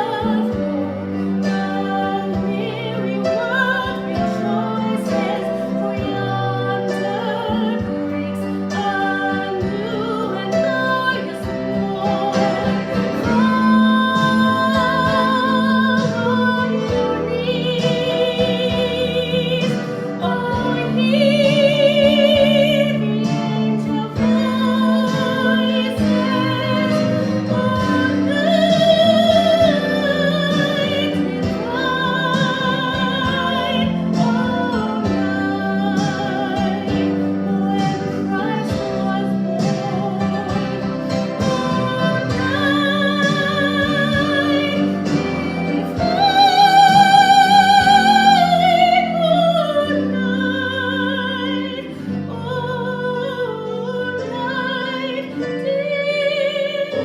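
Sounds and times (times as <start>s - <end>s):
instrumental accompaniment: 0.0s - 57.0s
person singing classical style: 0.0s - 57.0s.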